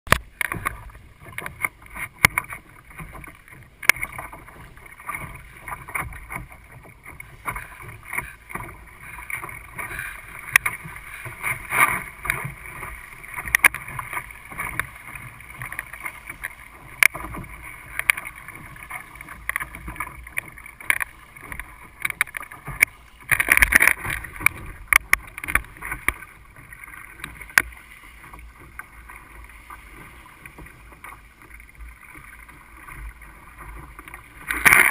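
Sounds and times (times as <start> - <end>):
water splashing against a hull: 0.0 - 34.9.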